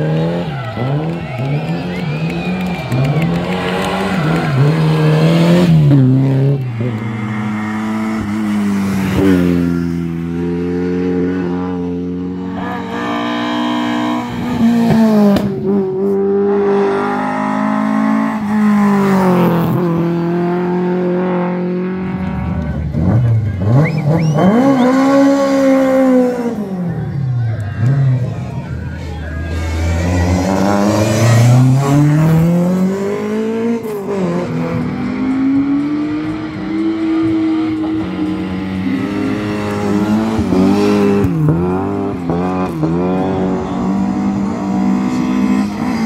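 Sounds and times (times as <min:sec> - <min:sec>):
rally car engines revving: 0:00.0 - 0:46.0.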